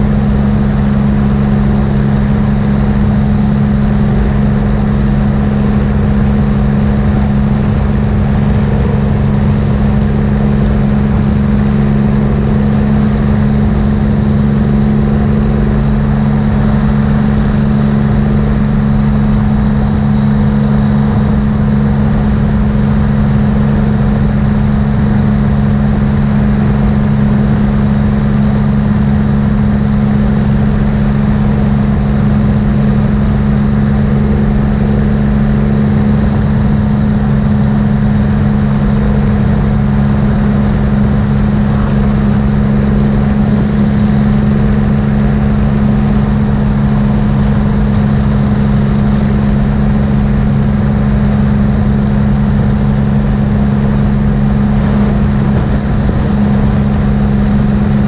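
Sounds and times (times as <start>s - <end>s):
motorcycle engine cruising: 0.0s - 58.0s
wind rumble on microphone: 0.0s - 58.0s.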